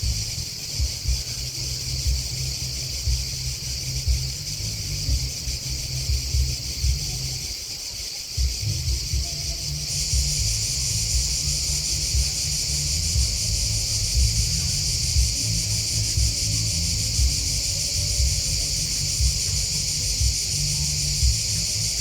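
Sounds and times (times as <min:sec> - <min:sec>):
low uneven rumble: 0:00.0 - 0:07.6, 0:08.4 - 0:22.0
grasshoppers and crickets chirping: 0:00.0 - 0:22.0.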